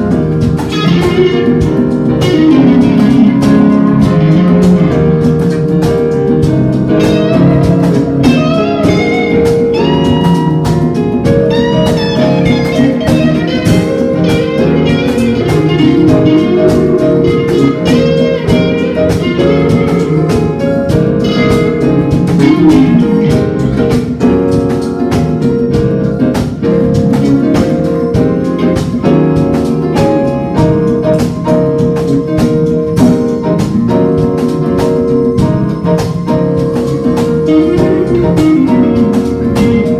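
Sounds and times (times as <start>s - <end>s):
guitar melody: 0.0s - 39.9s
live band playing: 0.0s - 39.9s
steady beat of sharp strokes: 0.0s - 39.9s.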